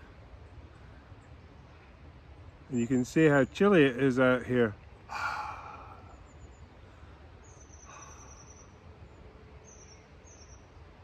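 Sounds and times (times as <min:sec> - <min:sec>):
low outdoor rumble: 0:00.0 - 0:11.0
small birds calling: 0:00.0 - 0:11.0.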